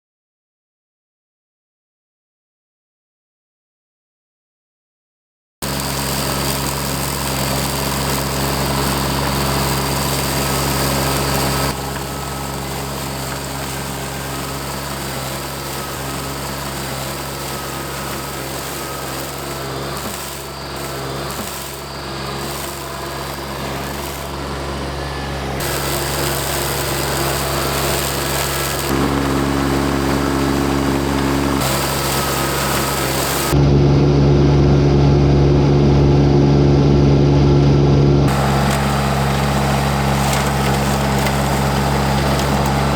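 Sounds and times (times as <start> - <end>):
engine drone with flail mower: 5.6 - 42.9.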